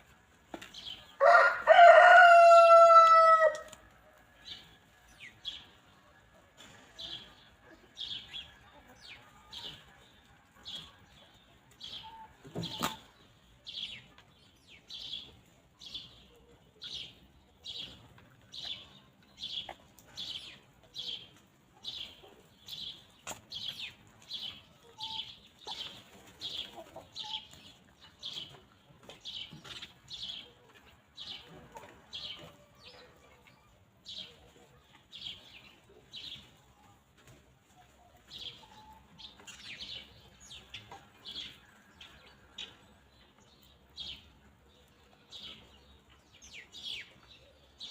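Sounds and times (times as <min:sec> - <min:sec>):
songbird chirping: 0:00.0 - 0:47.9.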